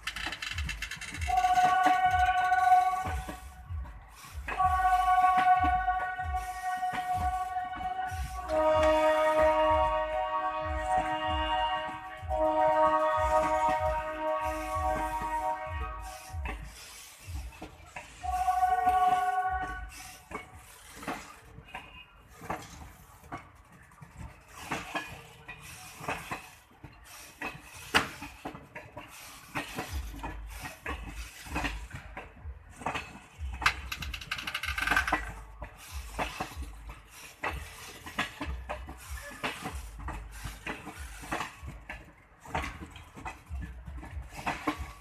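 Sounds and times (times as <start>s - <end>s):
low train rumble: 0.0s - 45.0s
train metallic clanks and clicks: 0.0s - 45.0s.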